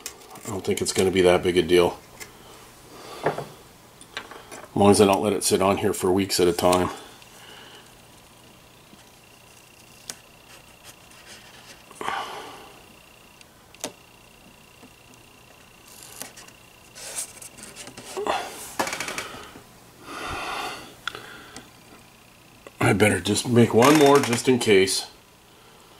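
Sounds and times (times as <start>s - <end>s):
faint steady high whine: 0.0s - 25.9s.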